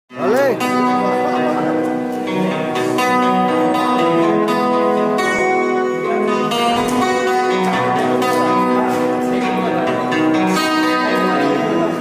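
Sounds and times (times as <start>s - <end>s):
acoustic guitar chords: 0.1s - 12.0s.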